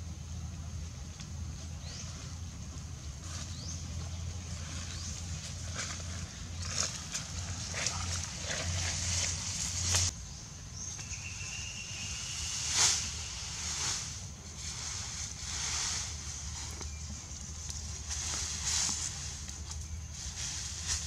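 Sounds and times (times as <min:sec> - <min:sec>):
dry leaves and straw rustling: 0:01.1 - 0:10.1, 0:11.8 - 0:21.0.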